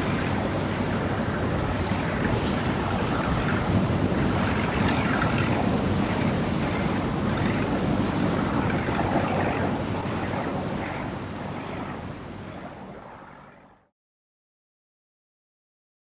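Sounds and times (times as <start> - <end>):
waves washing: 0.0 - 13.4
wind over water: 0.0 - 13.9.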